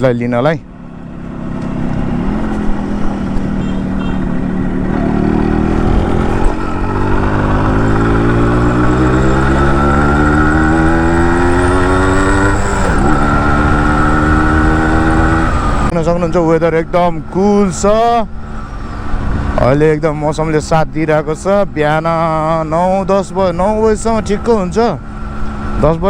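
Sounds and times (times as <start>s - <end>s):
motorcycle engine accelerating: 0.7s - 26.0s.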